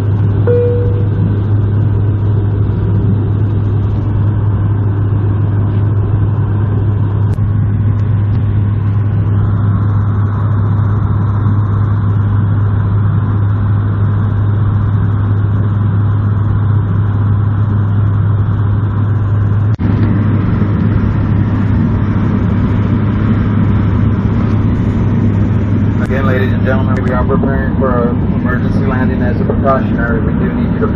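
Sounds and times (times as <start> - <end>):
low propeller hum: 0.0 - 30.9.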